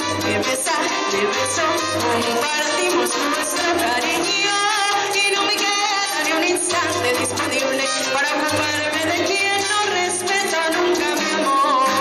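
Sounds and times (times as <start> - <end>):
backing music: 0.0 - 12.0
woman singing with vibrato: 0.0 - 12.0.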